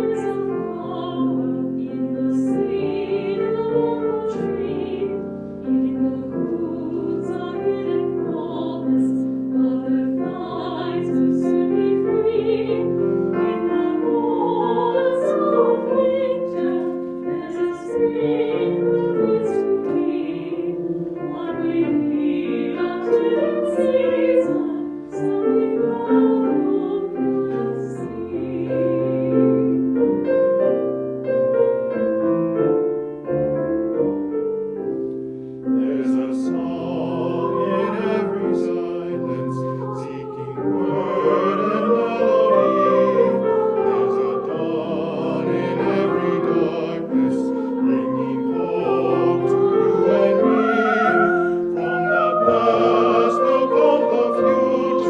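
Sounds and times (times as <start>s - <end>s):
classical singing with vibrato: 0.0s - 55.0s
piano: 0.0s - 55.0s.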